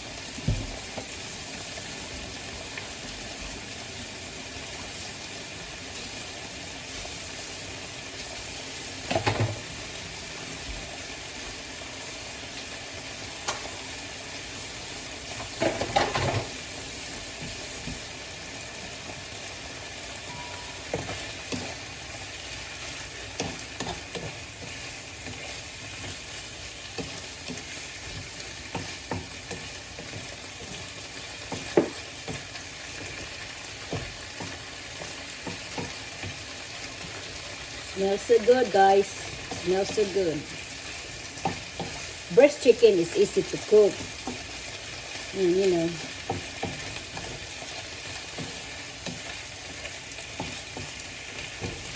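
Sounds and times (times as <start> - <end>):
chicken sizzling in a pan: 0.0 - 51.9.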